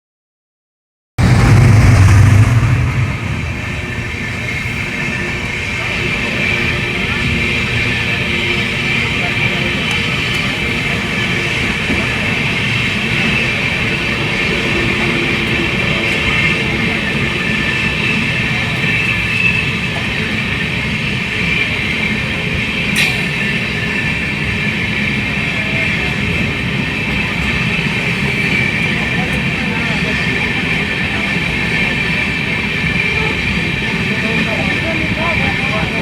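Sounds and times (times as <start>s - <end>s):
train wheels on rails: 1.2s - 36.0s.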